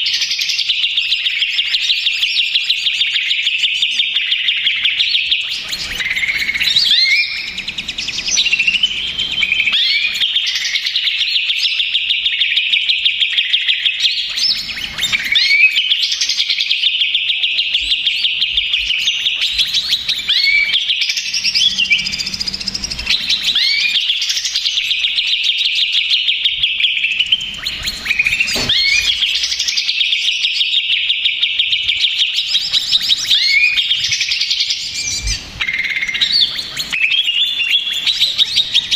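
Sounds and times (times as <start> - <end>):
bird chattering and whistling: 0.0 - 38.9.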